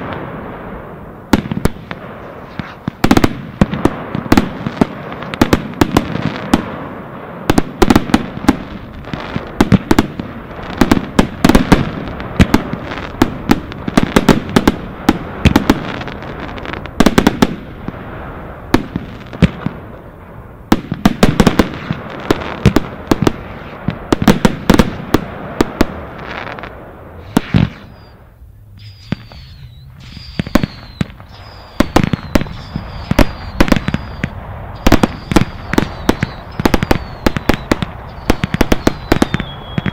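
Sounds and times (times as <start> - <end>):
fireworks bangs and crackles: 0.0 - 39.9
fireworks whistles: 0.0 - 39.9.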